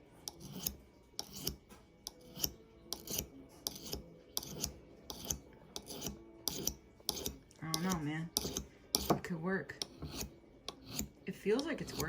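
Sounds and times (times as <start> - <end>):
knife scraping on ceramic: 0.0 - 12.0.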